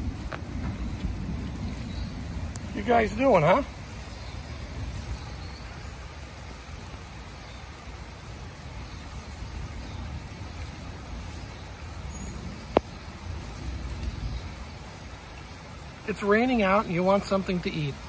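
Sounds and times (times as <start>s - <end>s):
steady rain patter: 0.0s - 18.0s.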